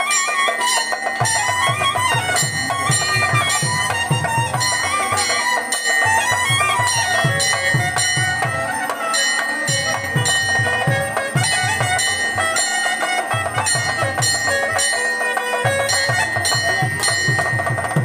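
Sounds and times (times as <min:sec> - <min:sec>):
hand drum beat: 0:00.0 - 0:18.0.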